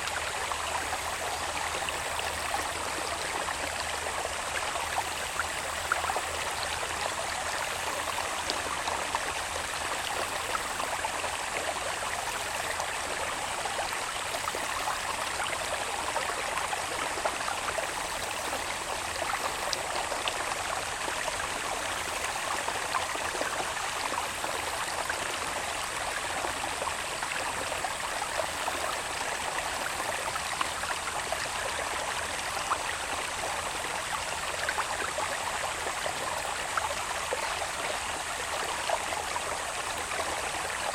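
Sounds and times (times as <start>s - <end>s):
water babbling and trickling: 0.0s - 40.9s.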